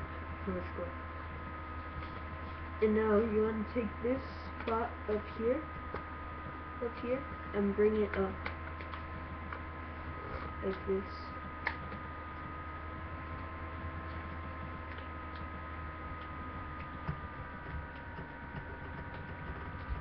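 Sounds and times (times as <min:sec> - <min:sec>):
electrical hum and hiss: 0:00.0 - 0:20.0.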